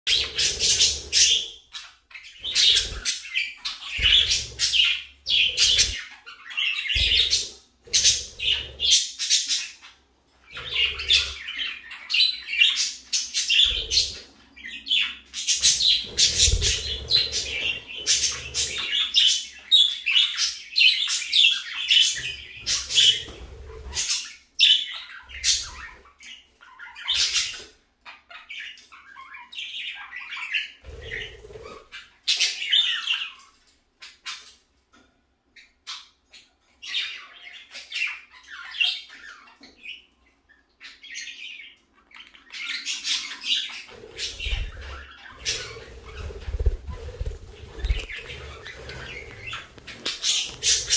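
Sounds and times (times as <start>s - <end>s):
budgerigars chirping and warbling: 0.1s - 34.8s, 35.6s - 50.9s.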